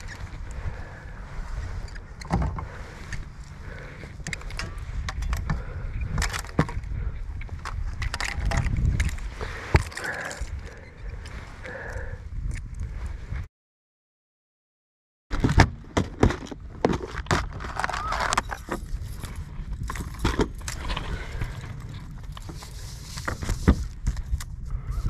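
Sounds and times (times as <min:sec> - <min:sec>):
rope and gear rattling on boat deck: 0:00.0 - 0:12.8, 0:15.3 - 0:25.0
wind rumble on microphone: 0:00.0 - 0:13.5, 0:16.5 - 0:25.0.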